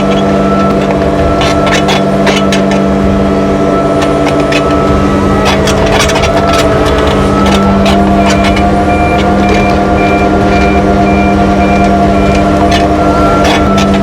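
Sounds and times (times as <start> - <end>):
diesel engine running under load: 0.0 - 14.0
machine clanks and knocks: 0.0 - 14.0.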